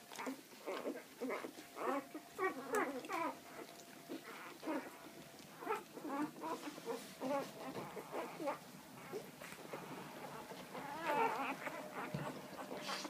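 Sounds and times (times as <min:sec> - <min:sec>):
puppies squeaking and whimpering: 0:00.1 - 0:13.0.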